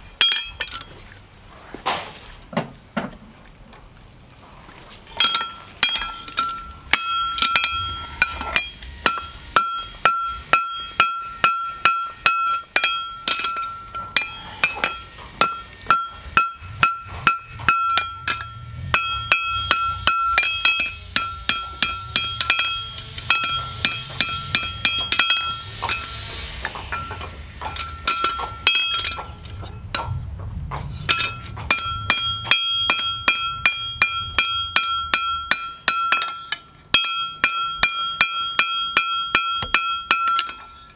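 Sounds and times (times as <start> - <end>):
hammer striking steel: 0.2 - 0.9, 5.2 - 30.2, 31.1 - 40.9.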